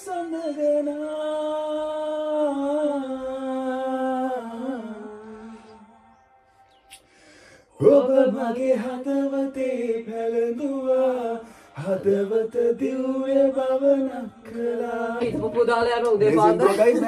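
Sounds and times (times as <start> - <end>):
man singing unaccompanied: 0.0 - 6.0, 7.8 - 17.0.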